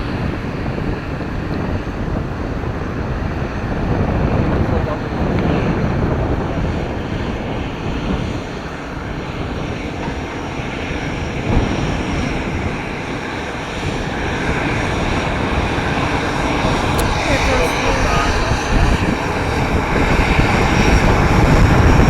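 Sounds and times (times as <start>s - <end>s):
aircraft engines running: 0.0s - 22.0s
wind buffeting microphone: 0.0s - 22.0s.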